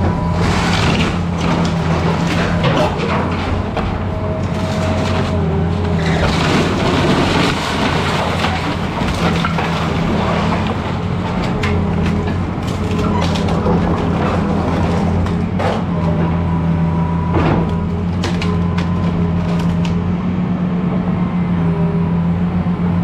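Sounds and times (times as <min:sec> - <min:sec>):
timber cracking and splintering: 0:00.0 - 0:16.2, 0:17.3 - 0:20.0
excavator diesel engine running: 0:00.0 - 0:23.0.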